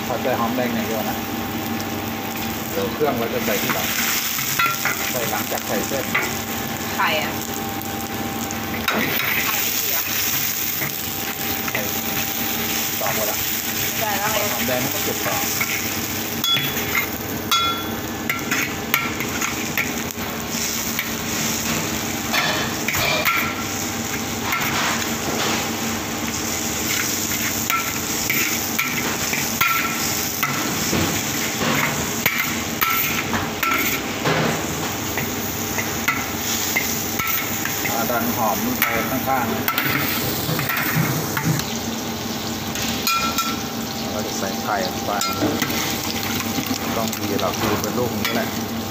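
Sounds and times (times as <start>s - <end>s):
shallots sizzling in hot oil: 0.0s - 48.9s.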